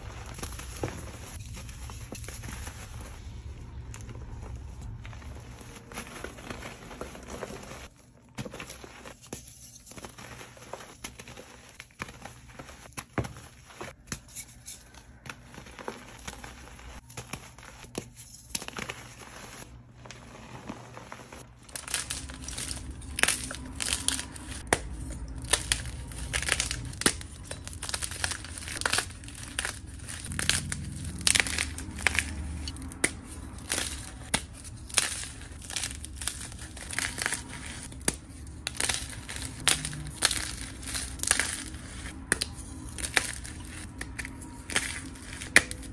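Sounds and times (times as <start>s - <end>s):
chalk blocks crunching and snapping: 0.0s - 45.9s
chalk powder crumbling: 0.0s - 45.9s.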